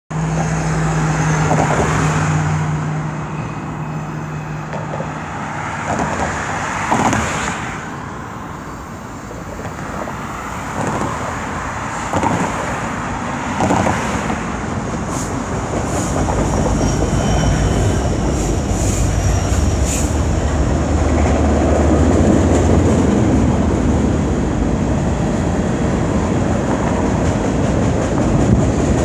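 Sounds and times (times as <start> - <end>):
road traffic passing: 0.1 - 29.0.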